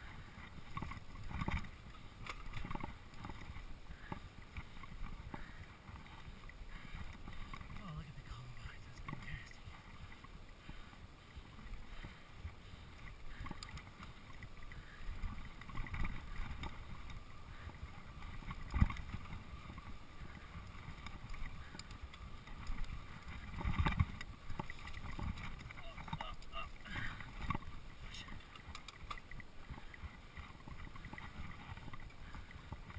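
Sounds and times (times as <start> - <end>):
bike tyres and frame rattling: 0.0 - 32.9
wind rumble on microphone: 0.0 - 32.9.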